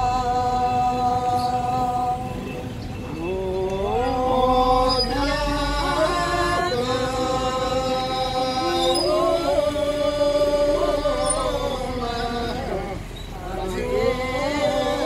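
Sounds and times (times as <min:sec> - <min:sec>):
group singing in unison: 0:00.0 - 0:15.0.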